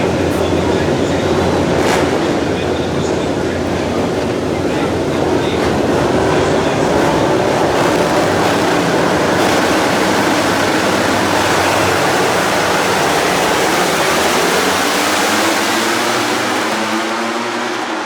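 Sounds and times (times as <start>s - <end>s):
race bike engines roaring: 0.0s - 18.0s.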